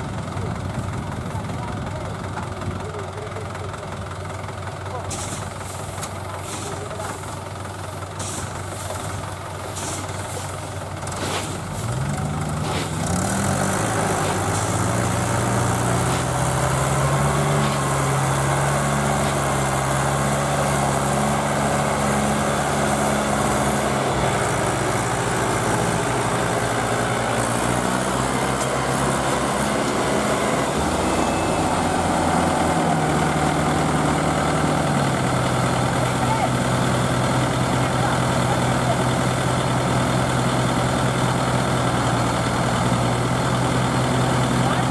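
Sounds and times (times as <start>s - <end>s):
tractor diesel engines under load: 0.0s - 44.9s.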